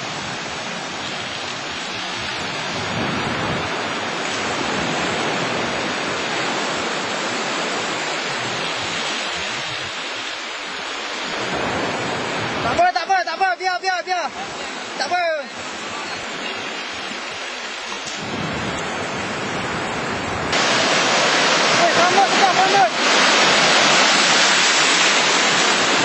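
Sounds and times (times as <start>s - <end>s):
waves washing onto beach: 0.0s - 26.0s.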